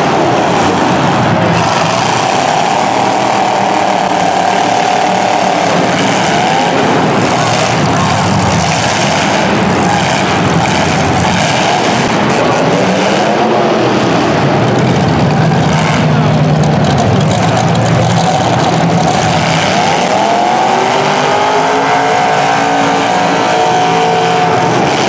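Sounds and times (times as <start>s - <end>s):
car engines revving high: 0.0s - 25.0s.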